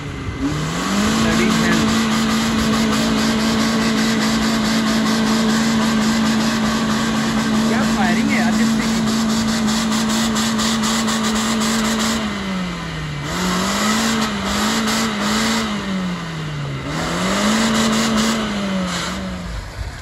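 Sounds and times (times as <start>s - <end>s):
off-road engine revving: 0.0s - 20.0s.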